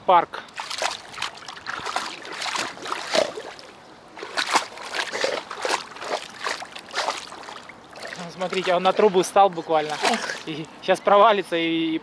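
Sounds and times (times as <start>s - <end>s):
water splashing as dog wades: 0.5s - 10.6s.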